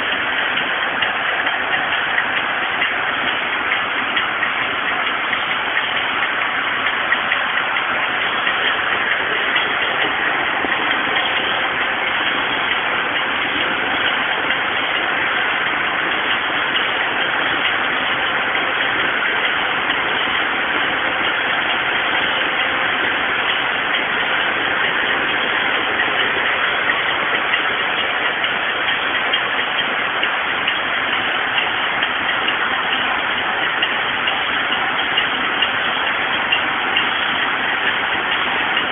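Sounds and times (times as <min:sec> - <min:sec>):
knitting machine running: 0:00.0 - 0:38.9.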